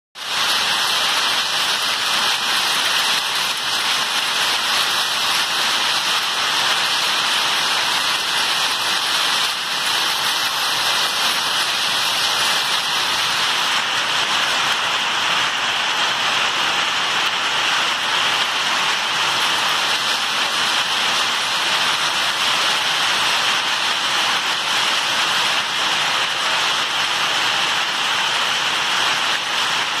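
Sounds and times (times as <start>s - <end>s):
hail and heavy rain on pavement: 0.2s - 30.0s.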